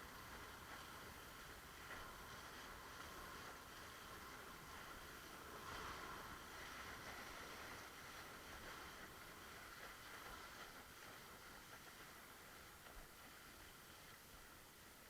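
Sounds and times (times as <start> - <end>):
rush of water and wind: 0.0 - 15.0.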